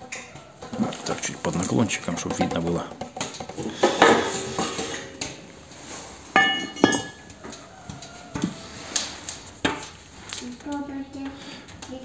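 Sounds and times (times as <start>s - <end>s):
metallic clanks on steel stove: 0.0s - 10.0s.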